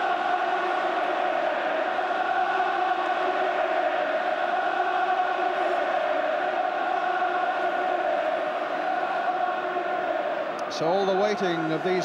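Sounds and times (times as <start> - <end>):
football crowd singing and chanting: 0.0 - 12.0.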